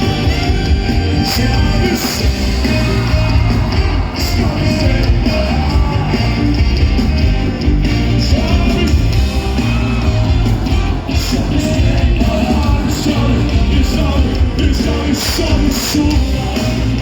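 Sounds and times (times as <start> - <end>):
band playing with singer: 0.0 - 17.0.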